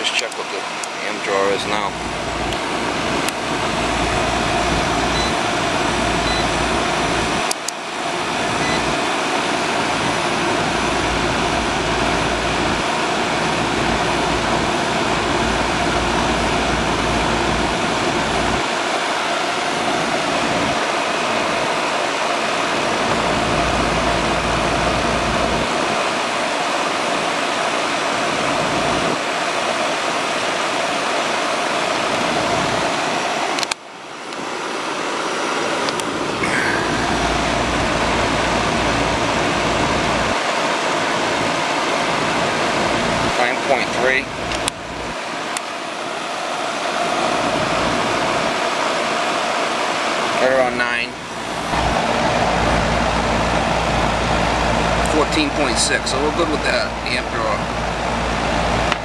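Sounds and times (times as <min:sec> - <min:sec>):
air conditioner unit humming: 0:00.0 - 0:59.0.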